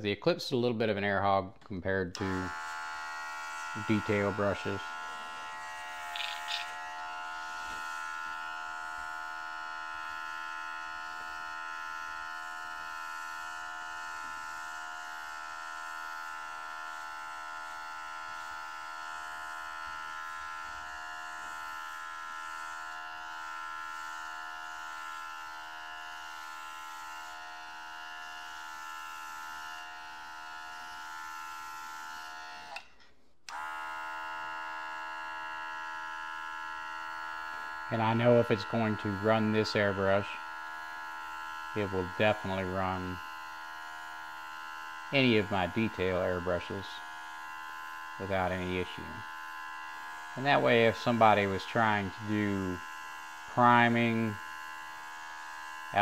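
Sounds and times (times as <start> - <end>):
compressor motor buzzing hum: 2.0 - 56.0.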